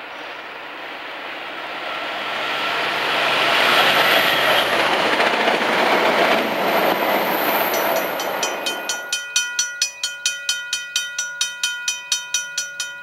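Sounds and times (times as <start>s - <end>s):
passenger train passing: 0.0s - 13.0s.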